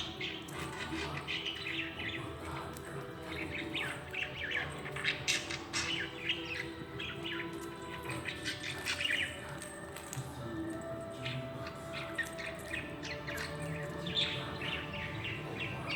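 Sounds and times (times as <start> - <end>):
background music: 0.0 - 15.9
bird chirping and squawking: 0.0 - 15.9.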